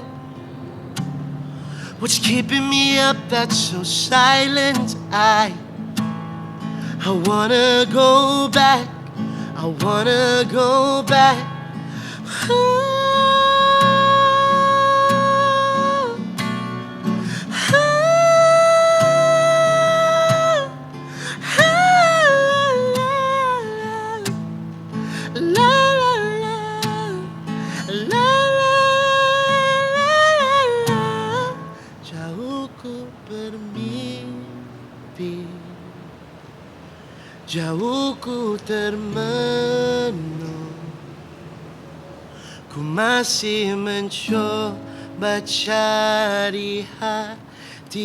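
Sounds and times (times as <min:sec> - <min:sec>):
strummed acoustic guitar: 0:00.0 - 0:48.0
man singing wordless high notes: 0:01.6 - 0:05.8, 0:06.6 - 0:16.3, 0:17.2 - 0:36.0, 0:37.4 - 0:41.2, 0:42.6 - 0:48.0.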